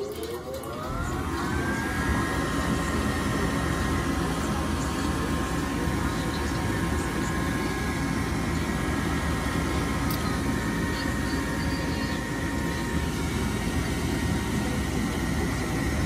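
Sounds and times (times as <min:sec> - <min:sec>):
furnace inducer motor whine: 0:00.0 - 0:16.0.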